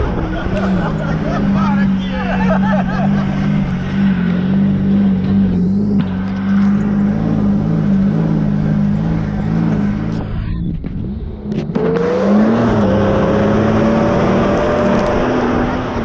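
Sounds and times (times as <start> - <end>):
rising whine: 0.0 - 16.0
vehicle engine running: 0.0 - 16.0.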